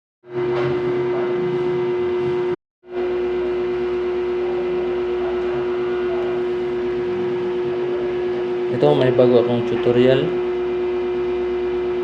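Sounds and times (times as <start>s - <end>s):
engine room machinery drone: 0.2s - 12.0s.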